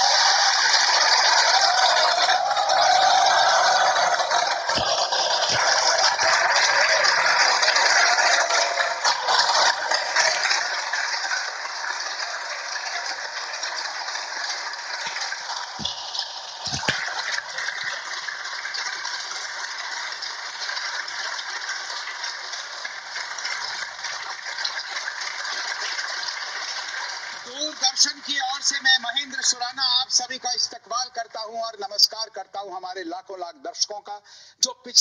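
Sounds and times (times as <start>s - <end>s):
audience applauding: 0.0s - 31.2s.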